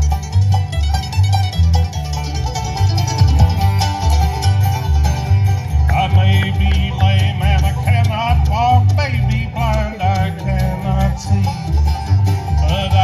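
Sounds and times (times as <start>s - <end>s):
plucked string picking: 0.0s - 13.0s
pulsing bass line: 0.0s - 13.0s.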